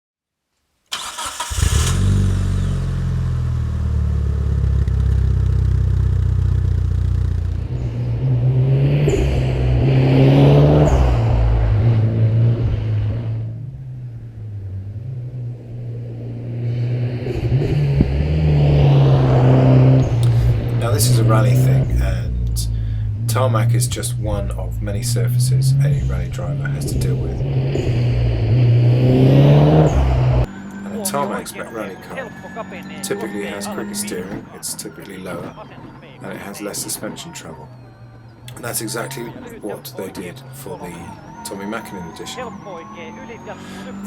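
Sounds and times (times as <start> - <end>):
car engine revving: 0.9 - 44.0.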